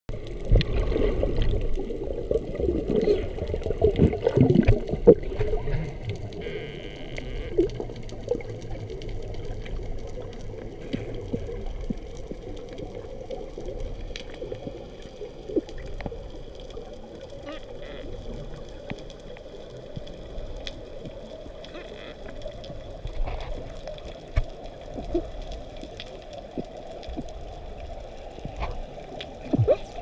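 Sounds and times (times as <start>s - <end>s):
underwater rumbling water wash: 0.1s - 30.0s
water gurgles: 0.1s - 30.0s.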